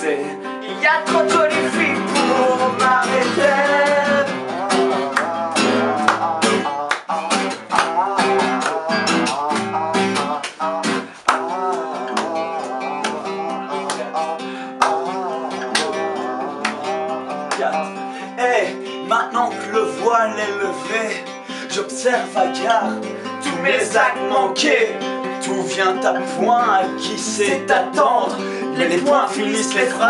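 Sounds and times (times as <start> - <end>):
acoustic guitar strumming: 0.0 - 30.0
person singing: 0.0 - 30.0.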